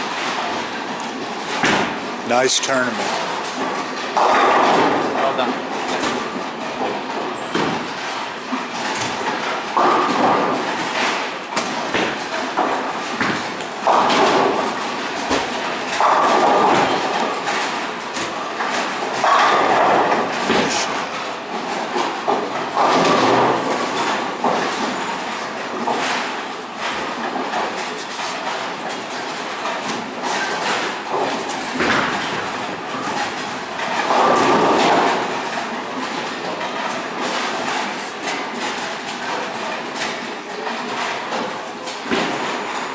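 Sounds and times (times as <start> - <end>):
bowling balls thudding and rolling: 0.0 - 42.9.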